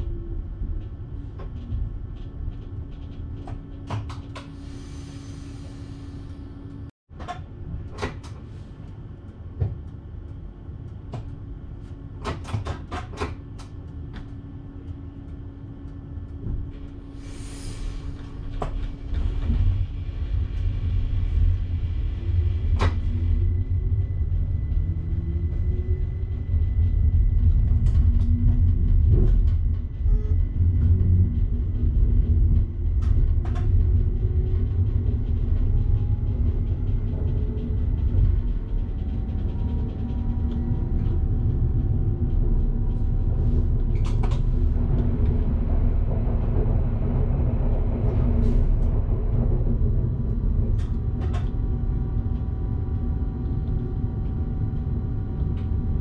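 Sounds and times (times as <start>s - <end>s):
train running rumble and hum: 0.0s - 56.0s.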